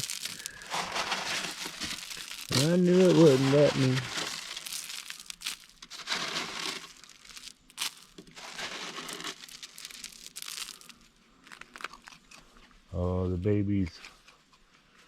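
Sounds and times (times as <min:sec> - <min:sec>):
crinkling and rustling: 0:00.0 - 0:12.8.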